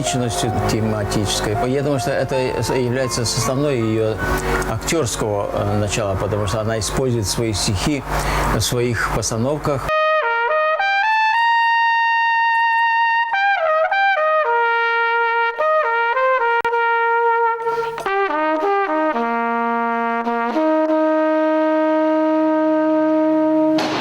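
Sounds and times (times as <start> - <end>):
solo trumpet melody: 0.0 - 7.7, 9.9 - 24.0.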